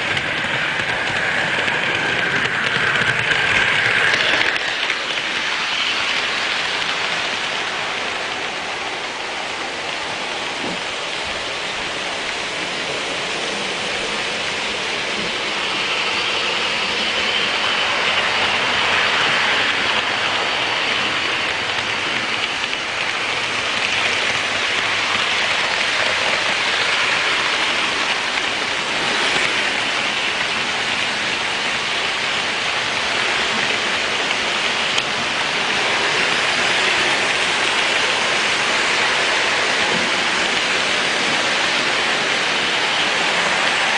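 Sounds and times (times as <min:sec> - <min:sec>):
model trains rolling on metal track: 0:00.0 - 0:43.9.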